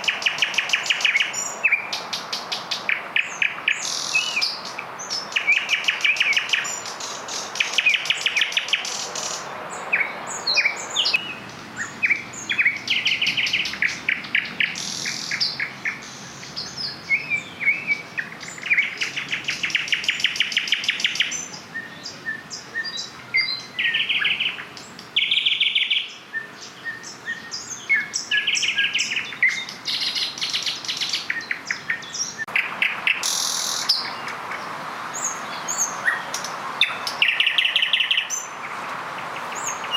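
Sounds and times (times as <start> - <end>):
nightingales singing: 0.0 - 39.9.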